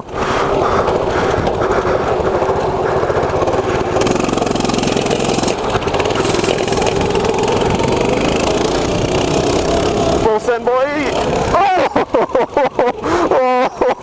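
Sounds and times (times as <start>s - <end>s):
mini bike engine running: 0.0s - 13.3s
wind and riding noise: 0.0s - 14.0s.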